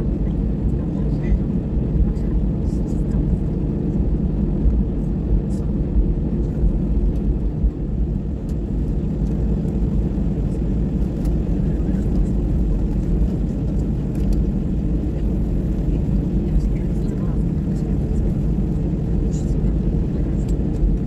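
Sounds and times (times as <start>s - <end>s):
jet engines humming in cabin: 0.0s - 21.0s.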